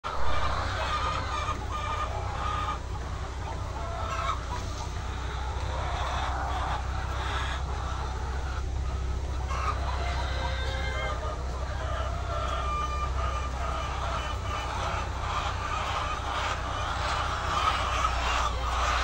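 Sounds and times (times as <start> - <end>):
hens clucking and squawking: 0.0 - 19.0.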